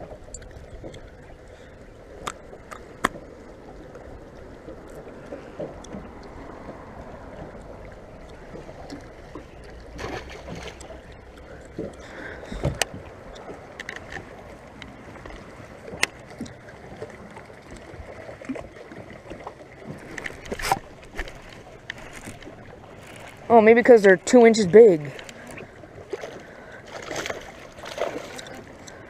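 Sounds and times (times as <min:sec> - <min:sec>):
water lapping against boat hull: 0:00.0 - 0:29.0.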